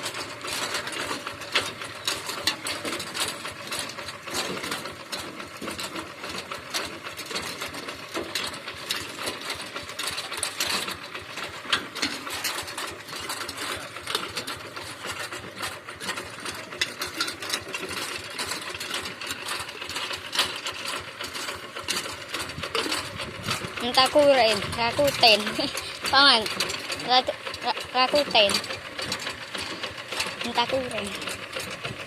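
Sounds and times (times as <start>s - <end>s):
diesel engine clattering: 0.0s - 32.0s.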